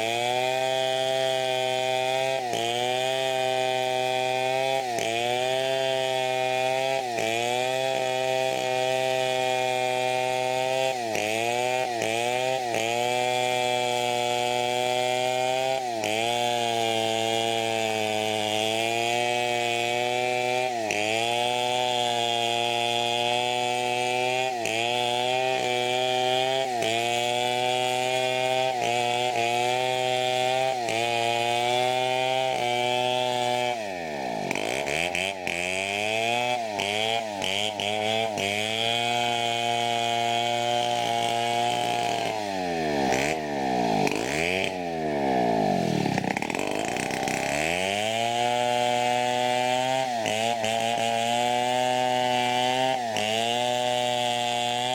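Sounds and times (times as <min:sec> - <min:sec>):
chainsaw ripping wood: 0:00.0 - 0:54.9.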